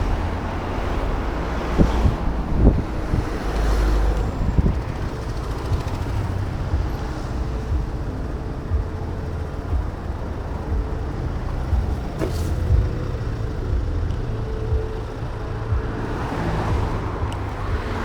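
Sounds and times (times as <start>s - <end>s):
road rumble: 0.0s - 18.0s
wind buffeting: 0.0s - 18.0s.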